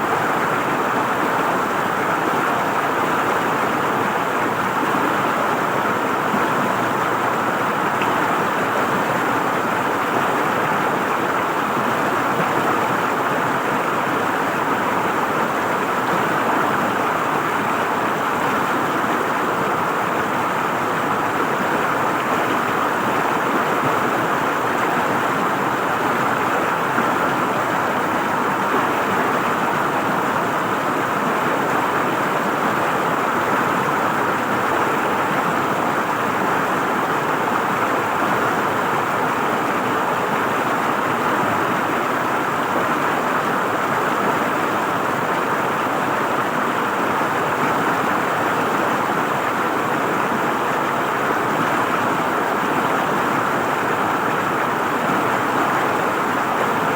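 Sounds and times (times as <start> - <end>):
river water flowing and gurgling: 0.0 - 56.9.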